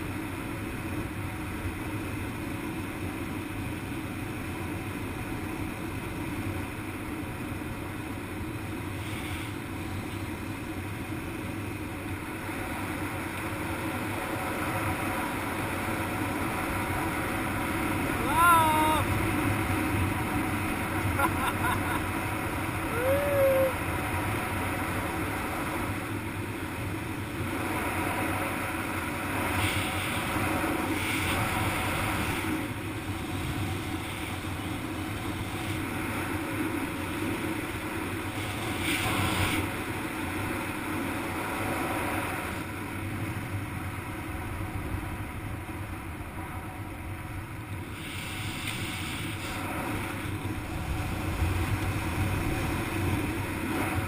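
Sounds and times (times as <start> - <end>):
wind rushing over microphone: 8.5 - 54.0.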